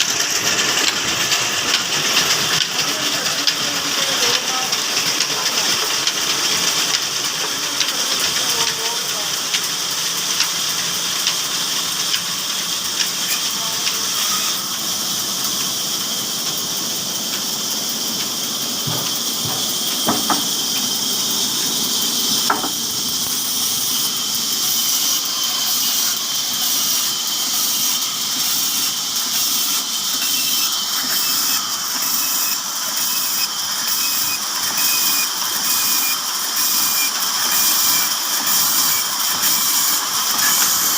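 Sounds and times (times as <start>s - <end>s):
stationary diesel engine running: 0.0s - 40.9s.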